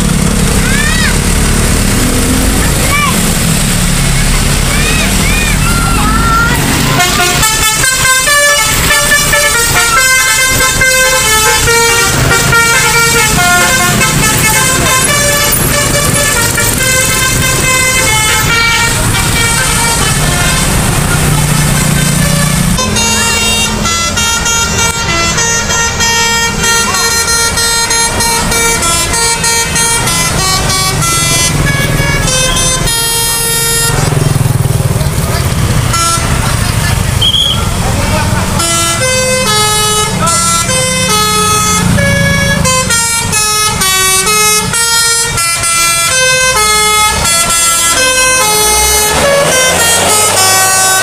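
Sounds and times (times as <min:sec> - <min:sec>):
multi-tone bus horns playing tunes: 0:00.0 - 0:51.0
road traffic: 0:00.0 - 0:51.0.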